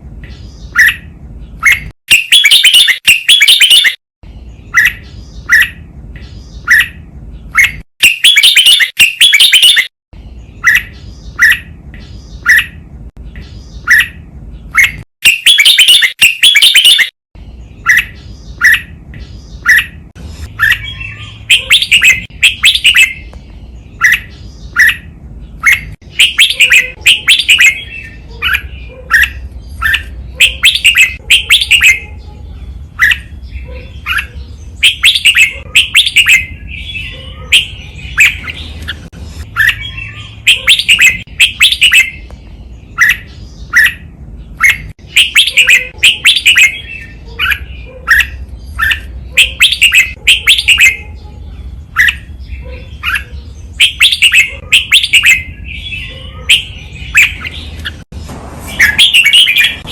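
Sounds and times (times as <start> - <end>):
bird singing sharp chirps: 0.2 - 58.0, 58.7 - 59.9.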